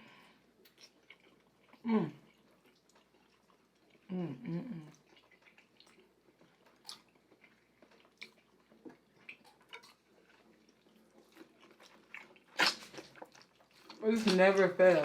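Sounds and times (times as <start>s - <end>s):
chewing and wet mouth sounds: 0.0s - 15.0s.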